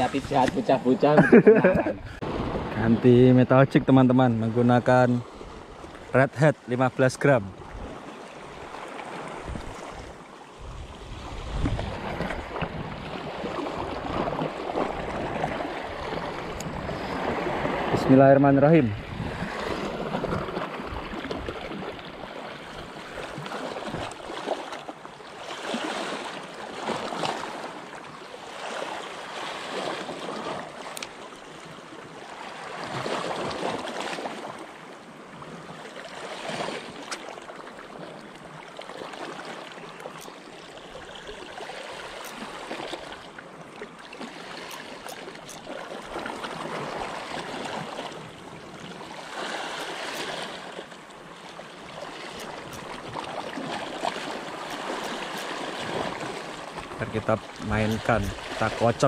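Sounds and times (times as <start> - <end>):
waves lapping against rocks: 0.0 - 3.3, 4.8 - 59.0.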